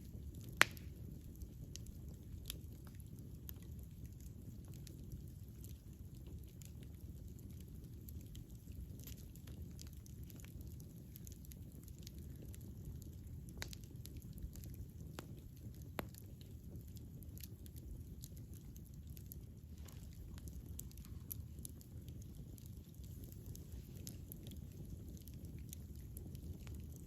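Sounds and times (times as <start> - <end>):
burning wood crackling and popping: 0.0 - 27.0
low rush of flames: 0.0 - 27.0.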